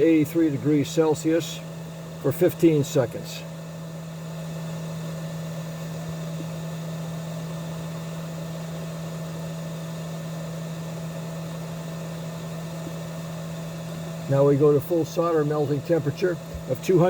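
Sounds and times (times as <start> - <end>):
hot air blower humming and hissing: 0.0 - 17.0.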